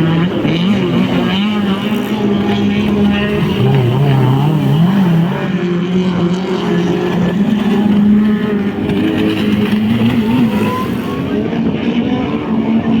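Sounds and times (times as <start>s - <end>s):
powerboat engines running hard: 0.0s - 13.0s.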